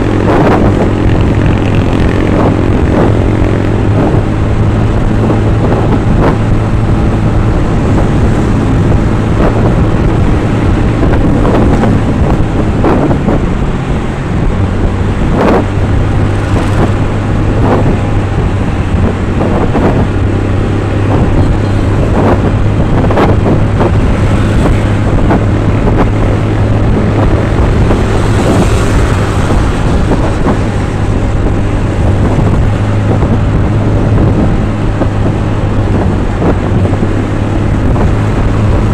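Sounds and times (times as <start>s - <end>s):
road and wind noise: 0.0s - 38.9s
vehicle engine hum: 0.0s - 38.9s.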